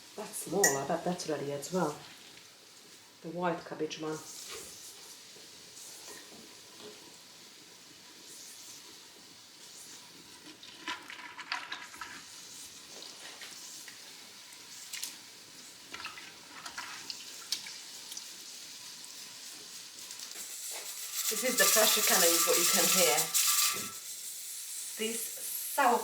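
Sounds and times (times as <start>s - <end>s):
pressure canner venting steam: 4.0s - 10.9s, 11.8s - 26.0s.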